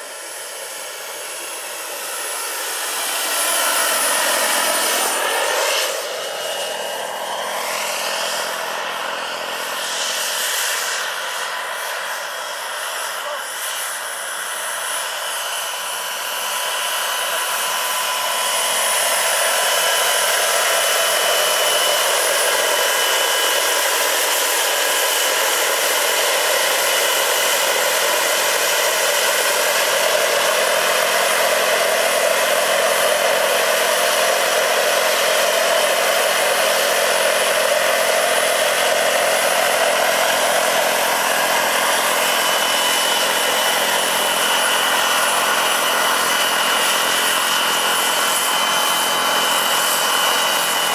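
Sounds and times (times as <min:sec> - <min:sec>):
model helicopter turbine whine: 0:00.0 - 0:50.9.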